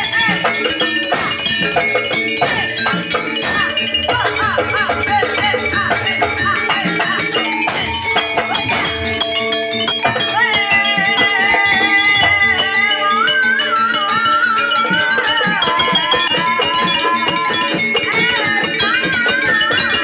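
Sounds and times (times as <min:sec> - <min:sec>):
high ornamented melody: 0:00.0 - 0:20.0
metallic percussion: 0:00.0 - 0:20.0.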